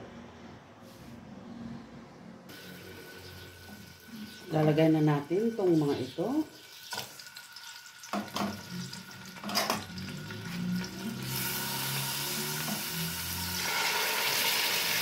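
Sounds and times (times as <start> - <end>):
oil sizzling: 2.5 - 15.0.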